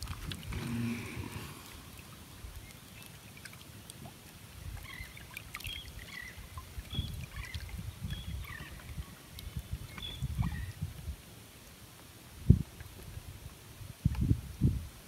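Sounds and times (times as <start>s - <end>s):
small waves lapping against boat: 0.0s - 14.2s.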